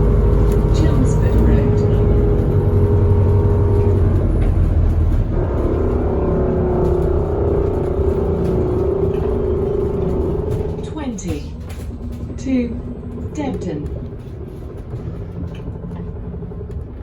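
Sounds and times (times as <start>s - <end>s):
bus engine rumble: 0.0s - 17.0s
drivetrain whine: 0.0s - 17.0s.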